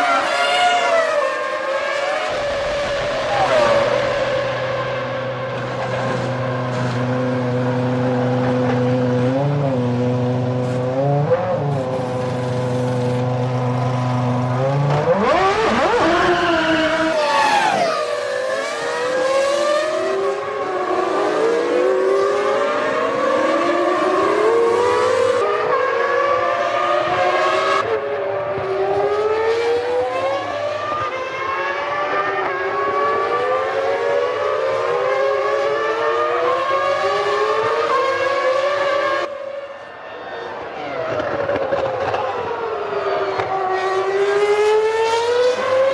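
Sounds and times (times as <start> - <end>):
racing car engines accelerating: 0.0 - 45.9.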